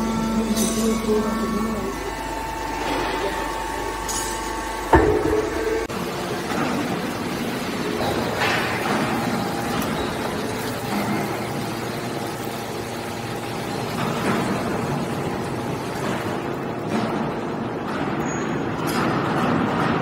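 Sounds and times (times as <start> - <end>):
hydraulic pump humming: 0.0 - 18.9.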